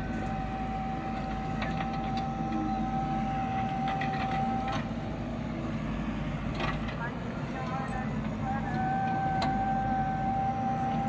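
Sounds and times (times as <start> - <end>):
distant diesel engine running: 0.0 - 11.0.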